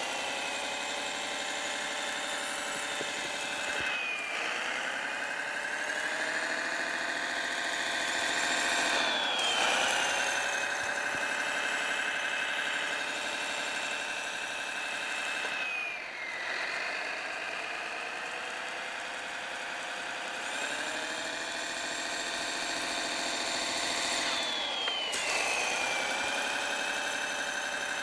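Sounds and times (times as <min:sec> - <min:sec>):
simulated engine through small speaker: 0:00.0 - 0:28.0.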